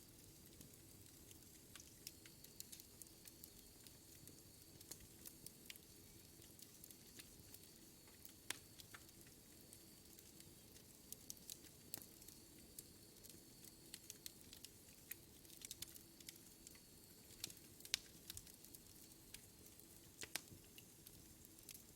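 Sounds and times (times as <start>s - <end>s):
soft steady hiss: 0.0s - 21.9s
wood fire crackling: 0.1s - 21.9s.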